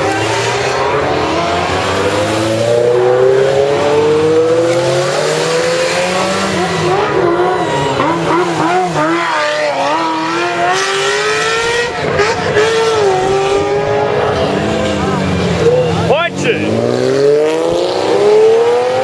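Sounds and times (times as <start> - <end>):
sports car accelerating: 0.0 - 19.0.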